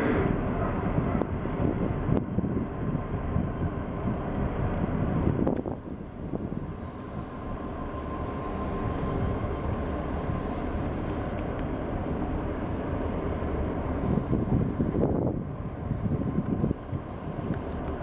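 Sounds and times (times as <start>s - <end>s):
ship engine rumble: 0.0s - 18.0s.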